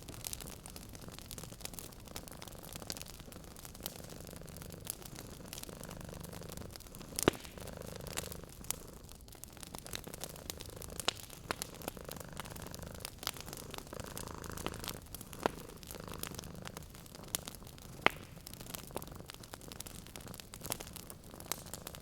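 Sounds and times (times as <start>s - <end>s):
wood fire crackling: 0.0s - 22.0s
cat purring: 0.2s - 22.0s.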